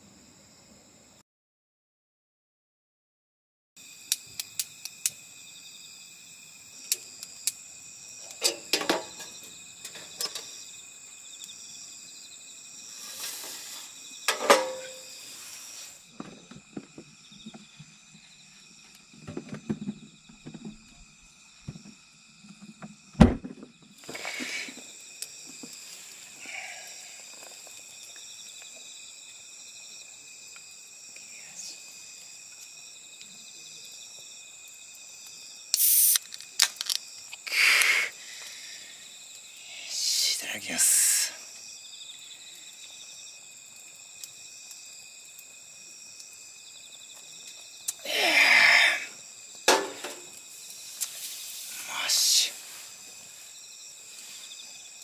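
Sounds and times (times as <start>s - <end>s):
crickets chirring: 0.0s - 1.2s, 3.8s - 55.0s.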